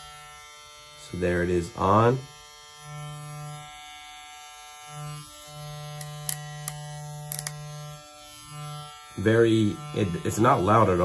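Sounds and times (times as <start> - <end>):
hair clipper humming: 0.0 - 11.0.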